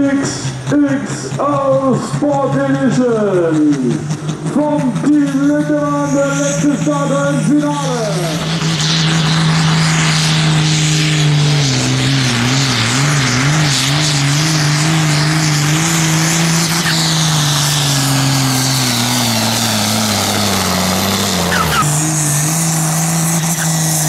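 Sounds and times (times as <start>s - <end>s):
tractor diesel engine at full load: 0.0s - 24.0s.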